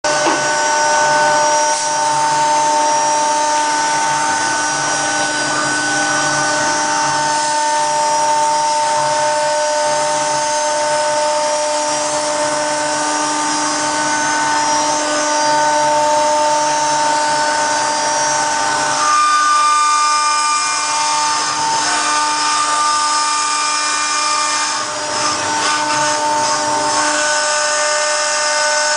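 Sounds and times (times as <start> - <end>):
cnc router spindle whining: 0.1 - 28.9.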